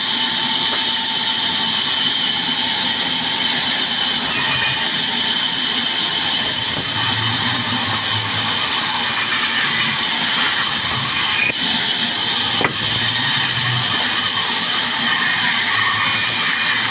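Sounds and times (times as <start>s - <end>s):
band saw cutting a log: 0.0s - 16.9s.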